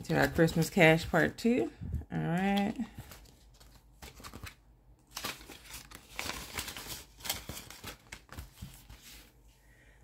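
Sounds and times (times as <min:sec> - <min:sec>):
paper bills and plastic rustling: 0:00.0 - 0:01.6, 0:02.3 - 0:09.4.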